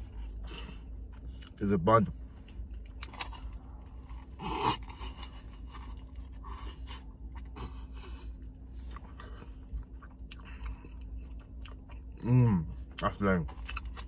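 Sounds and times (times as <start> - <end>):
low steady hum: 0.0 - 14.0
man chewing food: 0.0 - 14.0.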